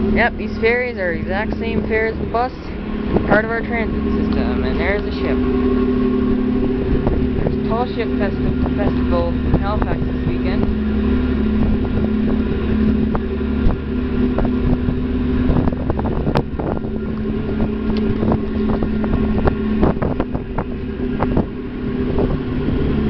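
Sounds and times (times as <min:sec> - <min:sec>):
ferry engines rumbling: 0:00.0 - 0:23.0.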